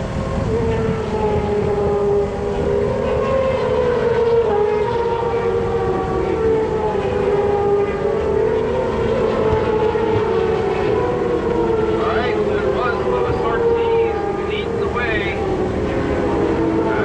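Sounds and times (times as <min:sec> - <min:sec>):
racing motorcycle engines whining: 0:00.0 - 0:17.0.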